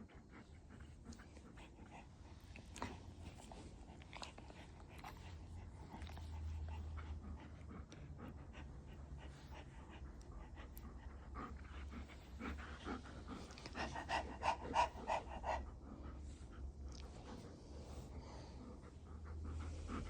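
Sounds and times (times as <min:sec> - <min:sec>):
dog panting: 0:00.0 - 0:20.0
low steady hum: 0:00.0 - 0:20.0.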